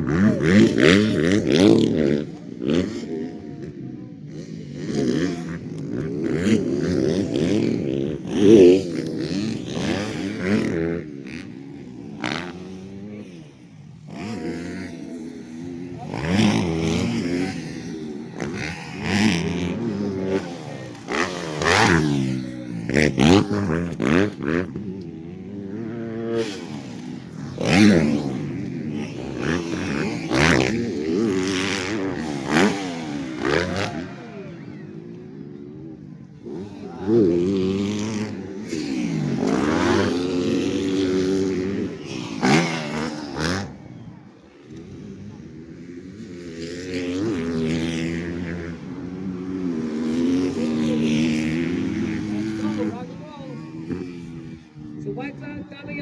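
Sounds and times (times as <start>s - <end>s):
motocross bikes revving past: 0.0s - 56.0s.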